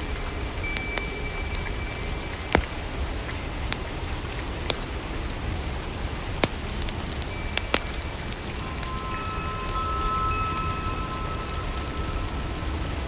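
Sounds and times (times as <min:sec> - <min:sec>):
steady rainfall: 0:00.0 - 0:13.0.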